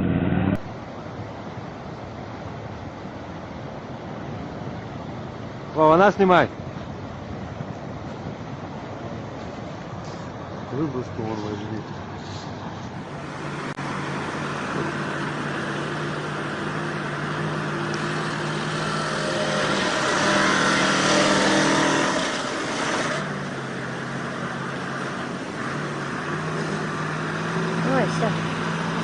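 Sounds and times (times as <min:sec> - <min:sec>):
heavy vehicle engine running: 0:00.0 - 0:05.6, 0:06.9 - 0:29.0.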